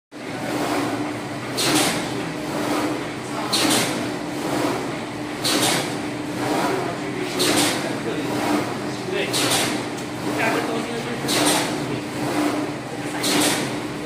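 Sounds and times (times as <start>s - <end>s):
machine humming: 0.2s - 14.0s.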